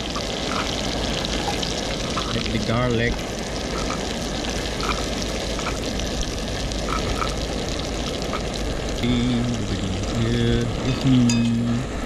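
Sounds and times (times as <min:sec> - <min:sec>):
garlic sizzling in butter: 0:00.0 - 0:11.6.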